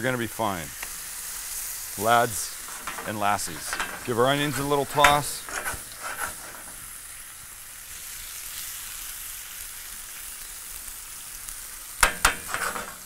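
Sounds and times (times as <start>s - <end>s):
onion and bacon sizzling in pan: 0.0s - 13.0s.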